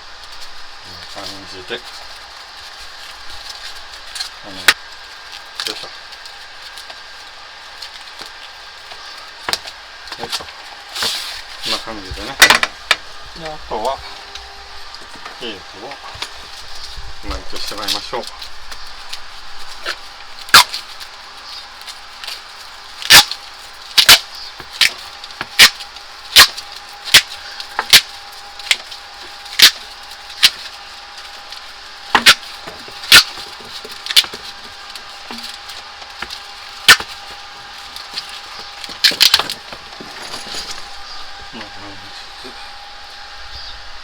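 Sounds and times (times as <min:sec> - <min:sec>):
tape crackling off roll: 0:00.0 - 0:41.7.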